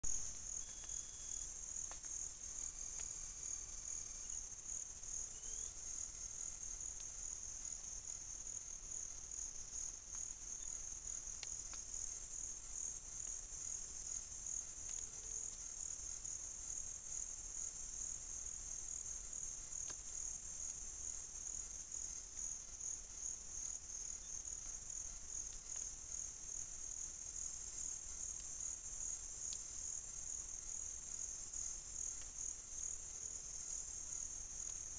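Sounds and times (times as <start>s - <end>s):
high-pitched insect trill: 0.1s - 34.9s.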